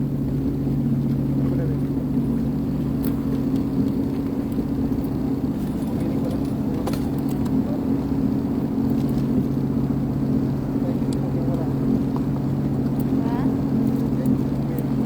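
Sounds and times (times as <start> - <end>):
watercraft engine running: 0.0 - 15.0.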